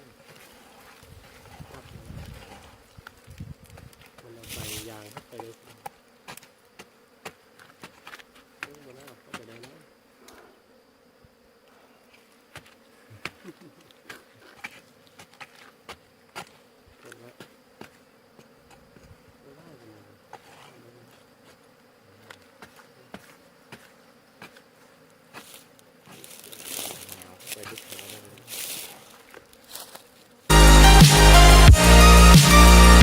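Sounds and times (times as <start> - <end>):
bees buzzing: 4.9 - 33.0.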